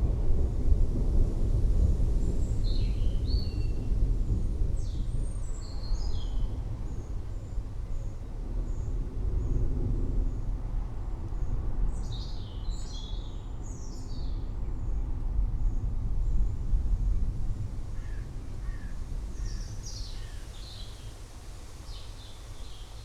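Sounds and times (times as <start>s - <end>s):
low rumble of thunder: 0.0s - 22.9s.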